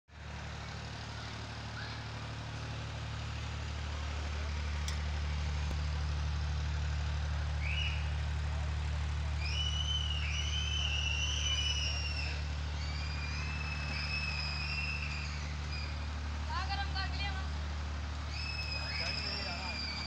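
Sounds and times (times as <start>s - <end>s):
low machine hum: 0.1s - 20.0s.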